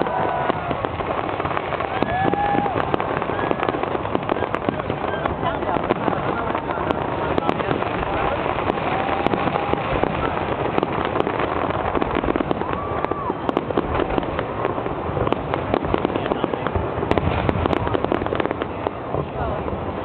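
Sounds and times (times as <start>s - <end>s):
crowd noise: 0.0s - 20.0s
fireworks cracking and banging: 0.0s - 20.0s.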